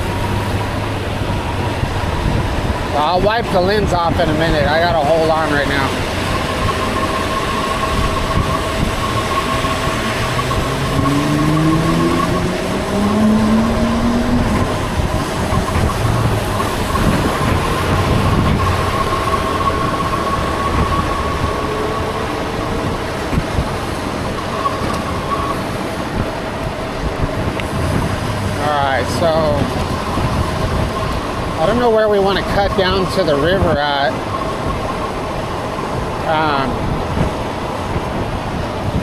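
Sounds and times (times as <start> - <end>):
whine rising in pitch: 0.0 - 38.0
steady whine: 0.0 - 39.0
wind and road noise: 0.0 - 39.0.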